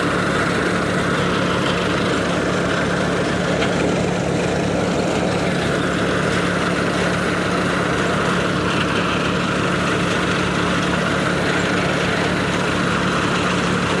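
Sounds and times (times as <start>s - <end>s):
threshing machine rushing: 0.0s - 14.0s
tractor engine humming: 0.0s - 14.0s.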